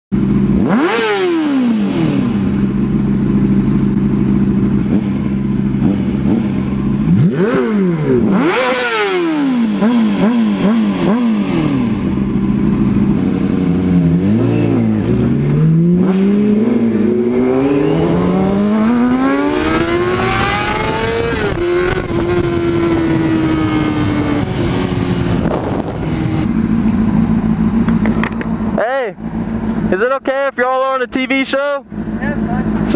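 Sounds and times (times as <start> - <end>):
car engine revving: 0.2 - 32.9
motorcycle engine revving: 0.2 - 32.9.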